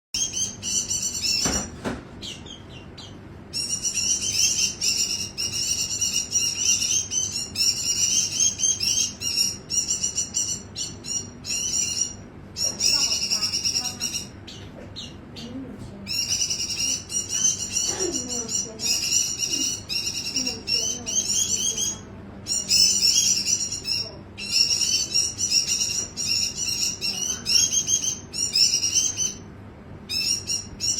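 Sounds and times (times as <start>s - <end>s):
bird twittering song: 0.2s - 29.5s, 30.1s - 30.9s.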